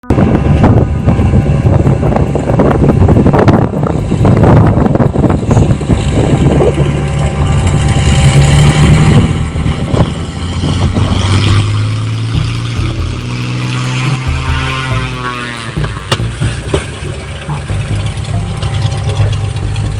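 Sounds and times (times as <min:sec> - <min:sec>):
aircraft engine running: 0:00.0 - 0:19.9
wind buffeting microphone: 0:00.0 - 0:19.9.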